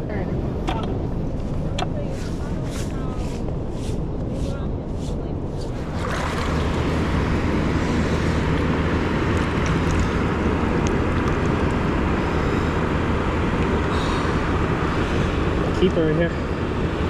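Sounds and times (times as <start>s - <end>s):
wind rumbling on microphone: 0.0s - 17.0s
beach surf: 1.6s - 17.0s.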